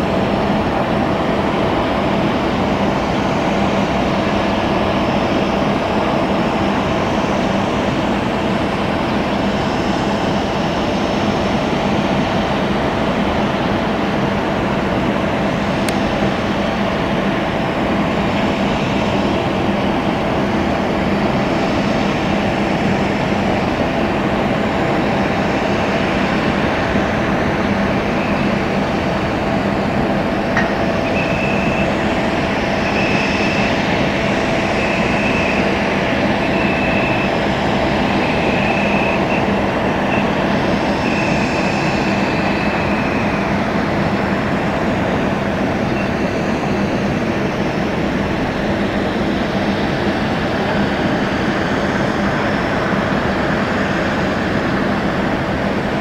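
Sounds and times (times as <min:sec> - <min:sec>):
jet turbine hum and whine: 0:00.0 - 0:56.0.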